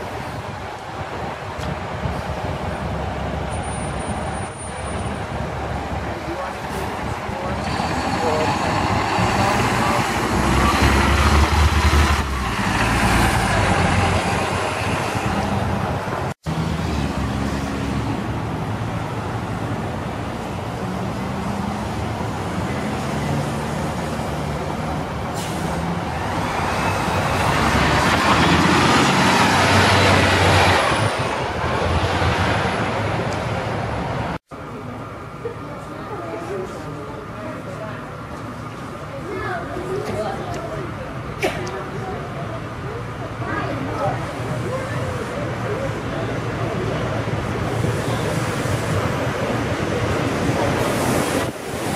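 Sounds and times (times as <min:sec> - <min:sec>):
bus engine pulling away: 0:00.0 - 0:51.9
bus passing with high whine: 0:00.0 - 0:51.9
street traffic: 0:00.0 - 0:51.9.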